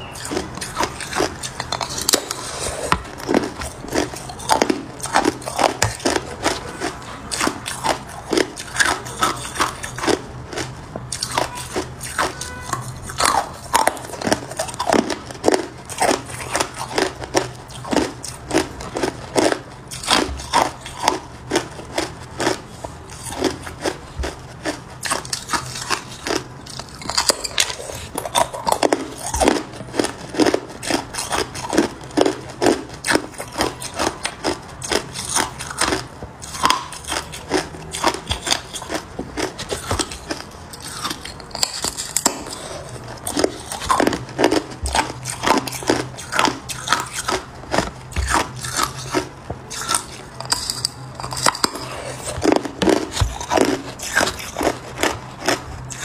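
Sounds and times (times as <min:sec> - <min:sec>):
person crunching ice: 0:00.0 - 0:56.0.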